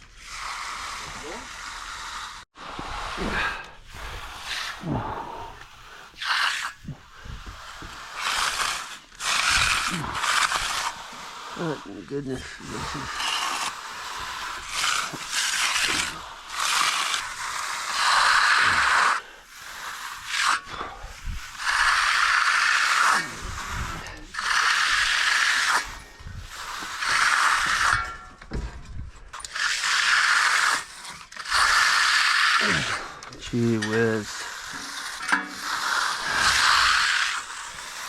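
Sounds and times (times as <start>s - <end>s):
tool scraping wet concrete: 0.0s - 38.0s.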